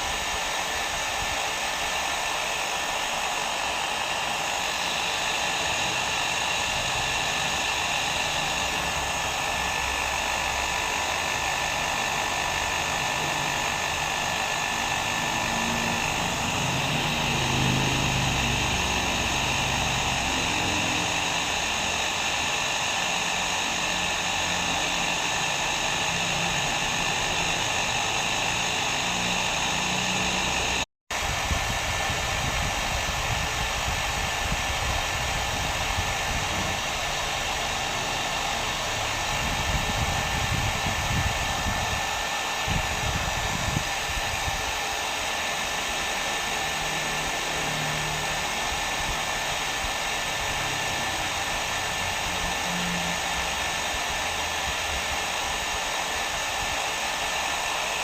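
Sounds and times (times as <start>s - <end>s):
hair dryer blowing: 0.0s - 58.0s
hair dryer motor whine: 0.0s - 58.0s.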